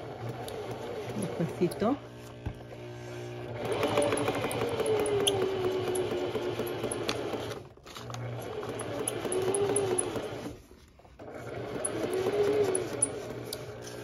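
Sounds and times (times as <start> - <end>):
sewing machine stitching: 0.0 - 2.0, 3.4 - 10.6, 11.2 - 14.0.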